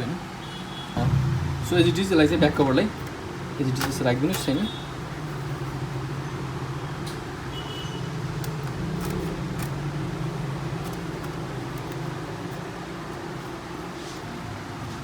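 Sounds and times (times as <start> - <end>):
steady low hum: 1.0 - 14.1.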